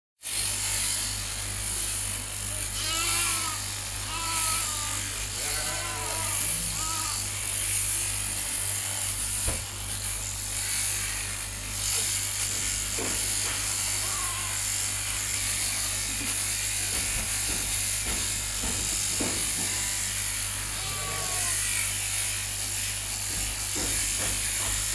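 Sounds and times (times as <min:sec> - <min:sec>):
electric sheep shears buzzing: 0:00.2 - 0:24.9.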